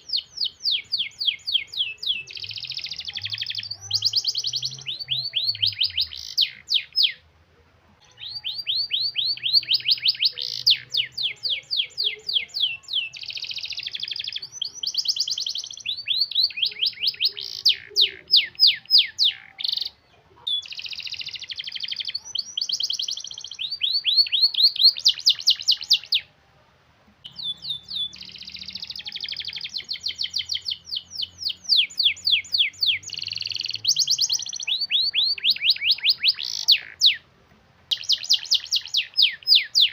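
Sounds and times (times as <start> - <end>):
canary singing: 0.0 - 7.3, 8.0 - 26.4, 27.2 - 39.9.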